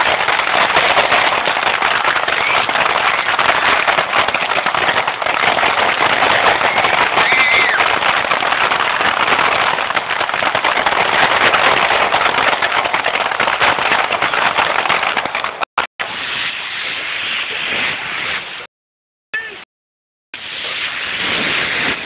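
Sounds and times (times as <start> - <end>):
fireworks crackling: 0.0 - 18.7, 20.4 - 22.0.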